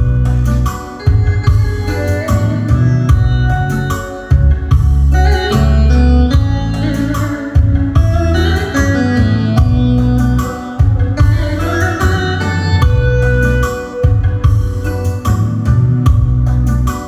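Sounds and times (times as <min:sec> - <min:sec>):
music with heavy bass: 0:00.0 - 0:17.0.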